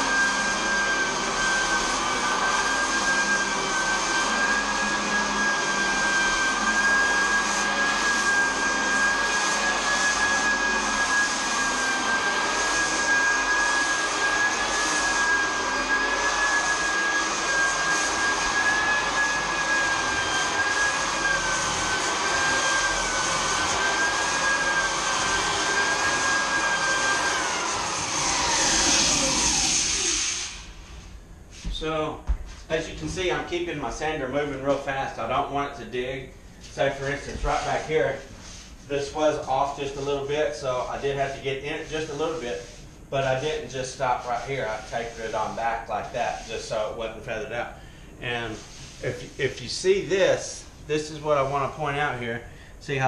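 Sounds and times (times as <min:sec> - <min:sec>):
floor sander motor whine: 0:00.0 - 0:52.3.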